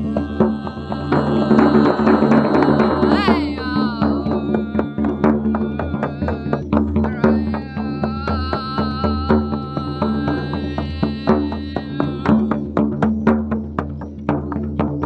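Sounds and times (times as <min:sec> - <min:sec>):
steady high tone: 0:00.0 - 0:12.7
low drone: 0:00.0 - 0:12.8
hand drum strokes: 0:00.0 - 0:15.0.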